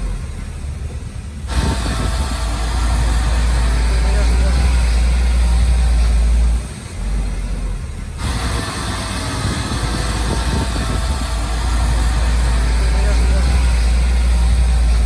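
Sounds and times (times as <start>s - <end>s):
earth-moving machinery engine rumble: 0.0s - 15.0s.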